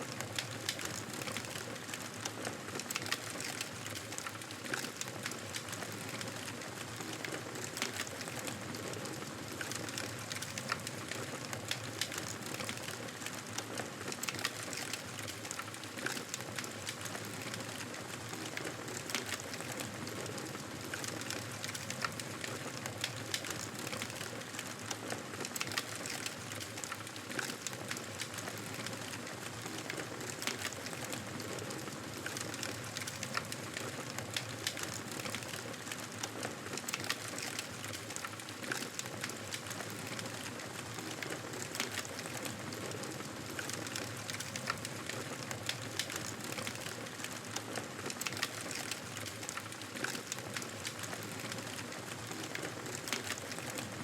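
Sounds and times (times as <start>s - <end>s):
wood fire crackling and popping: 0.1s - 54.0s.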